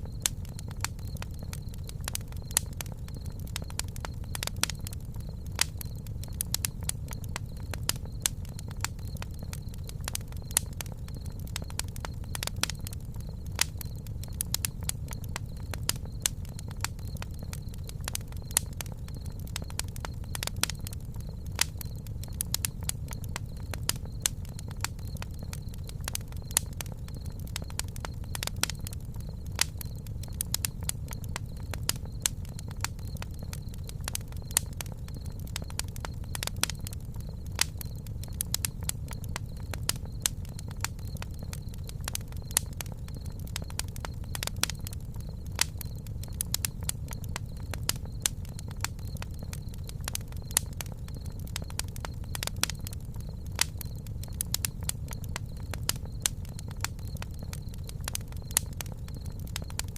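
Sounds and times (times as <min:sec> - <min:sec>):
burning wood popping and snapping: 0:00.0 - 0:59.9
low rumble of flames: 0:00.0 - 0:59.9.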